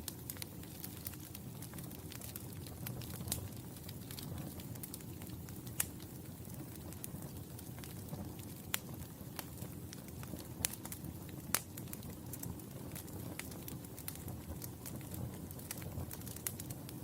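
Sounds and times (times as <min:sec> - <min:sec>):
sharp pops and snaps of fire: 0:00.0 - 0:17.0
wood fire crackling: 0:00.0 - 0:17.0.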